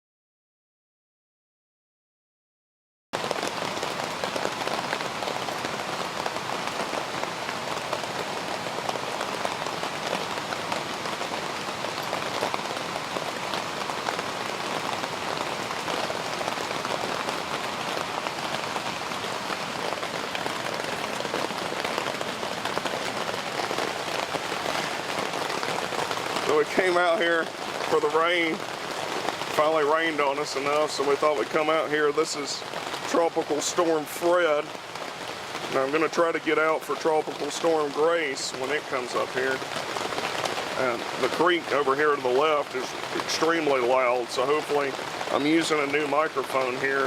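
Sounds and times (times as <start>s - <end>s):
steady rain falling: 3.2s - 47.0s.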